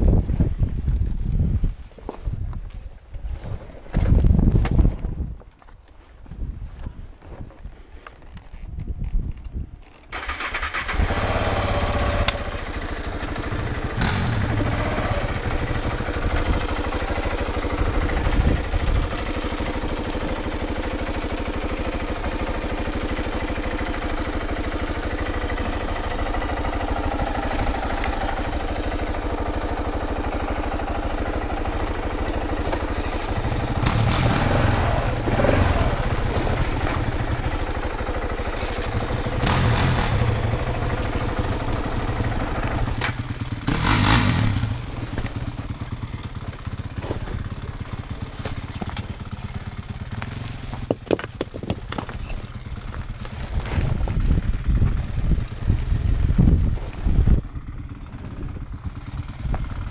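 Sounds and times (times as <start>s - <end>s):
motorcycle engine starting and revving: 2.7s - 5.4s, 8.0s - 59.9s.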